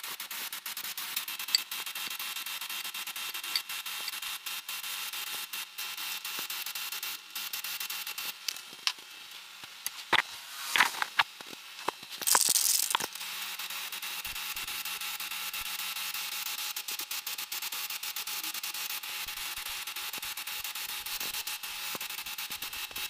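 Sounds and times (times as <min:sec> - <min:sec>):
aerosol spray can hissing: 0:00.0 - 0:08.4, 0:12.1 - 0:23.0.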